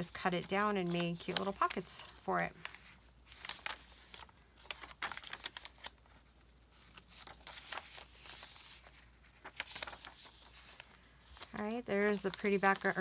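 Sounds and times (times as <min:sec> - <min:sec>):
paper pages rustling: 0:00.0 - 0:13.0.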